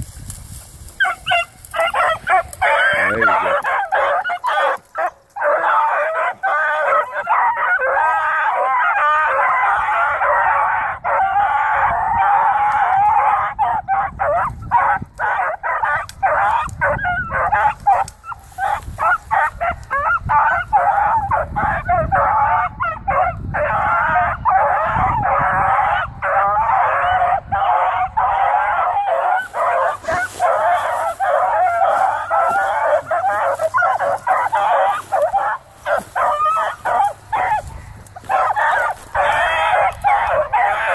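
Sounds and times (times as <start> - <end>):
hounds baying: 0.9 - 40.9.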